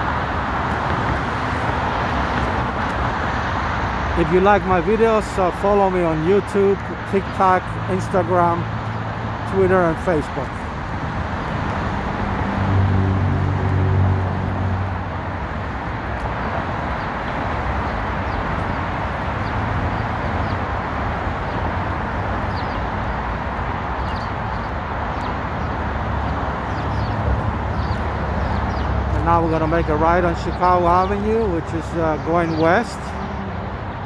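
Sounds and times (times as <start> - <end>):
city road traffic: 0.0 - 34.0.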